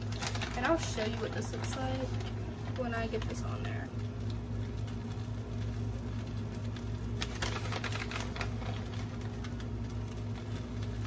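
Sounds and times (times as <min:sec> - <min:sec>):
plastic package crinkling: 0:00.0 - 0:11.0
steady low hum: 0:00.0 - 0:11.0.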